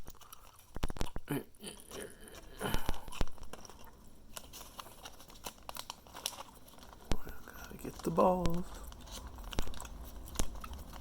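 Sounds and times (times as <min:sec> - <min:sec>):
plastic bag rustling: 0:00.0 - 0:01.3, 0:02.3 - 0:11.0.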